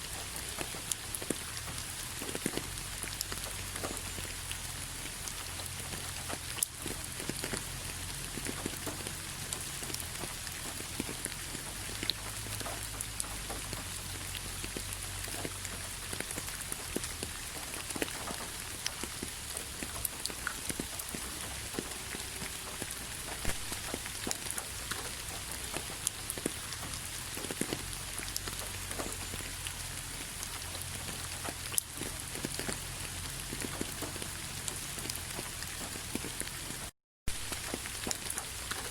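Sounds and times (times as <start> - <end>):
soft rain hiss: 0.0 - 38.9
raindrops tapping on hard surface: 0.1 - 38.9.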